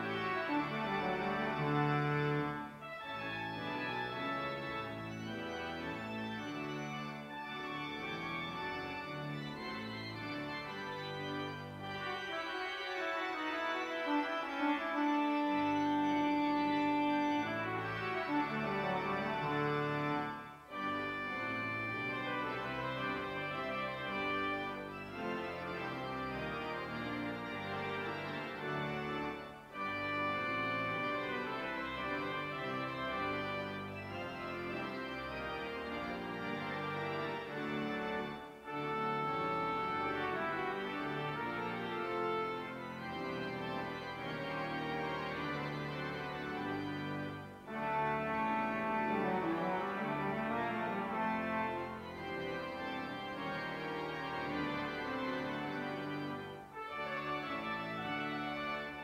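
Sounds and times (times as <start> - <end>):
church organ playing chords: 0.0 - 59.0.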